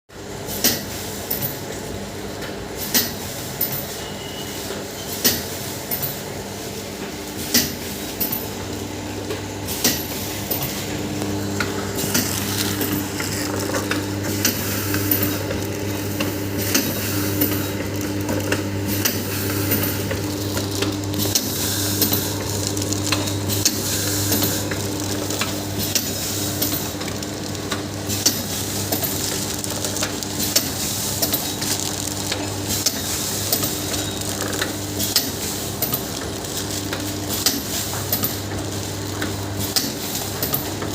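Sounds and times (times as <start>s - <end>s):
machine motor hum: 6.4s - 40.9s.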